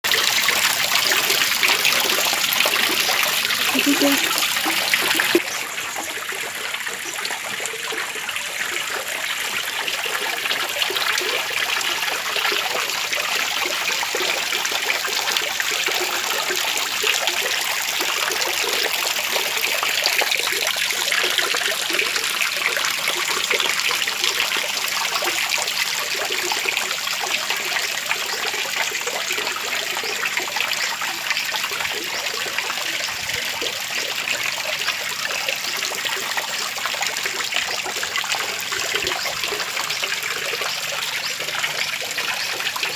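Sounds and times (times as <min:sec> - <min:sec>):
small waterfall trickling: 0:00.0 - 0:42.9.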